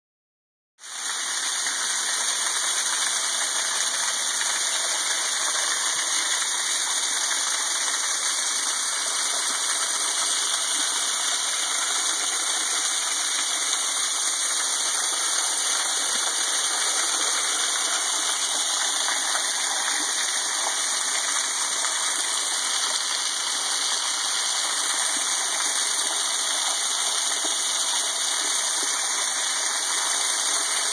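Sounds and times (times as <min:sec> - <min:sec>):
waterfall splashing on stone: 0:00.8 - 0:30.9.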